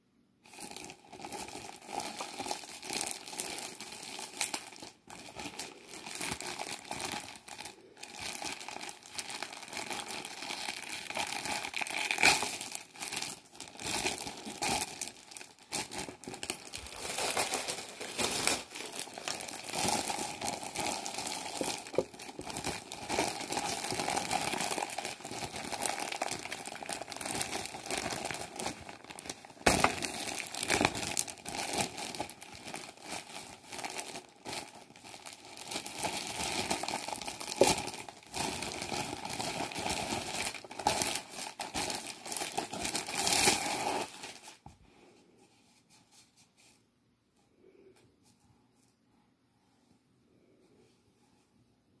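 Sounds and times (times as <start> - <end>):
plastic packaging crinkling: 0.5 - 44.7.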